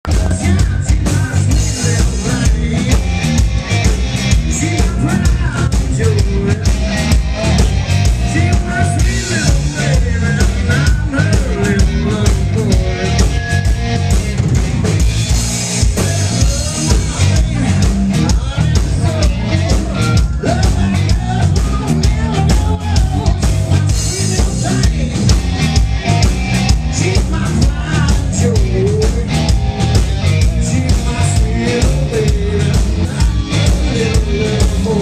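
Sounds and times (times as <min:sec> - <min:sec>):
live rock band: 0:00.0 - 0:35.0.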